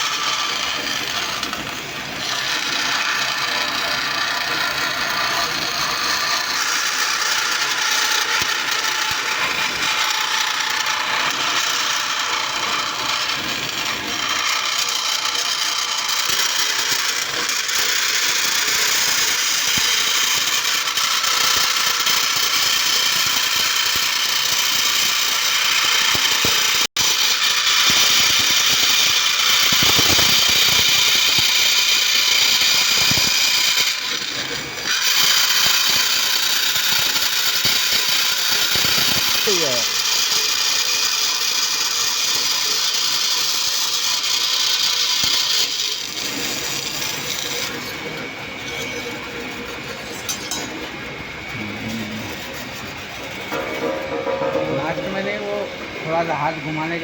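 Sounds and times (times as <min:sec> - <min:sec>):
band saw running: 0:00.0 - 0:57.0.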